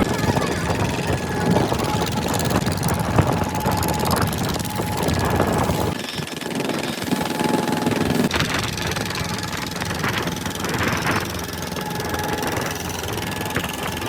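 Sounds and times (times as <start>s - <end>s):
boat engine running: 0.0s - 14.0s
wind: 0.0s - 14.0s.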